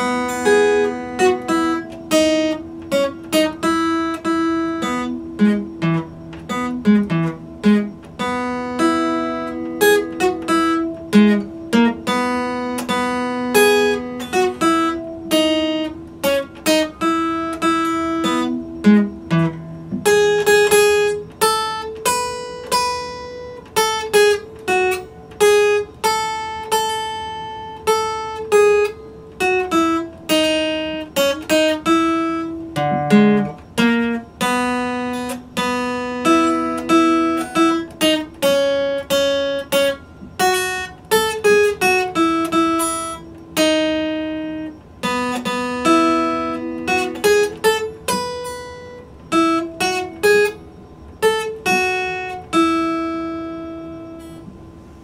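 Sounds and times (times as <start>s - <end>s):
acoustic guitar melody: 0.0s - 55.0s.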